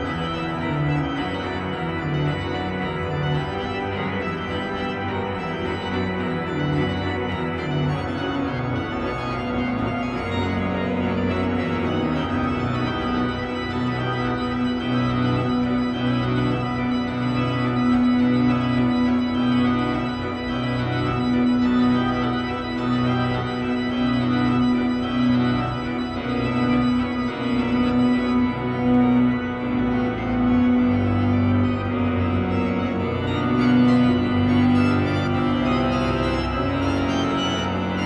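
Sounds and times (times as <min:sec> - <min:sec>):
classical organ music: 0:00.0 - 0:38.0.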